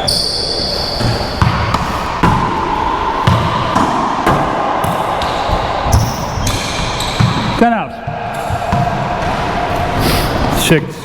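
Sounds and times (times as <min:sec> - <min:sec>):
racquetball hitting racquets and walls: 0:00.0 - 0:10.7.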